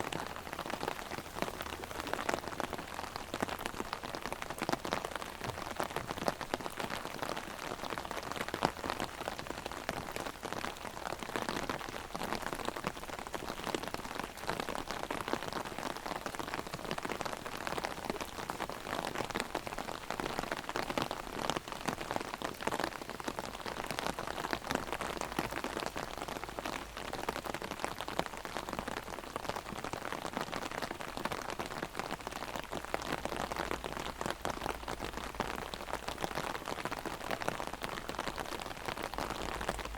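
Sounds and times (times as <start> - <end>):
heavy rain on umbrella: 0.0 - 39.9.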